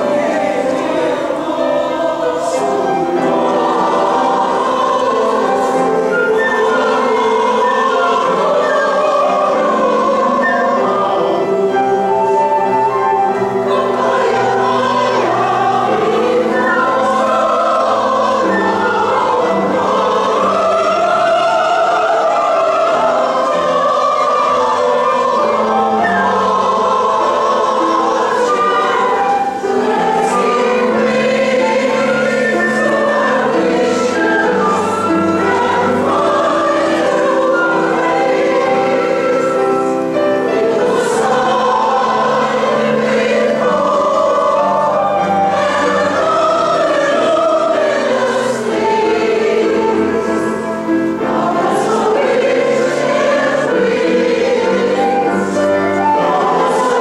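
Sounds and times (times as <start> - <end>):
chorus singing: 0.0 - 57.0.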